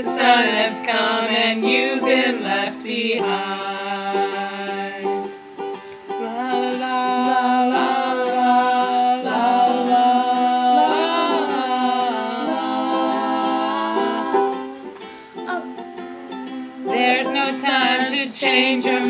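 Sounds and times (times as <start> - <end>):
strummed ukulele: 0.0 - 19.0
voices singing la la: 0.0 - 19.0.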